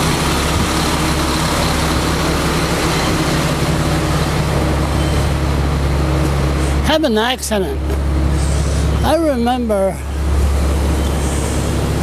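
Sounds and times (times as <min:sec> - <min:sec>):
traffic rush: 0:00.0 - 0:12.0
vehicle engine running: 0:00.0 - 0:12.0.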